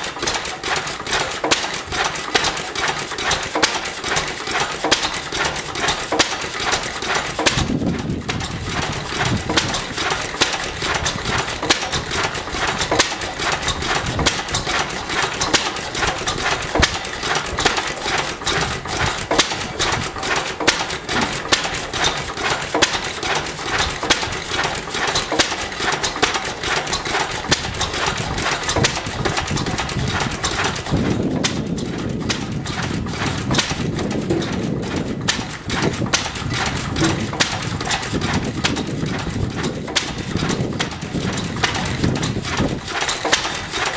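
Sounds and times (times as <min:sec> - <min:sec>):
stationary engine clattering: 0:00.0 - 0:43.9.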